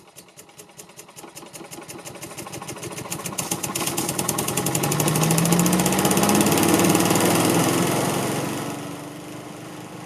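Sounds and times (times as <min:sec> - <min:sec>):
small engine revving up: 0:01.2 - 0:10.0.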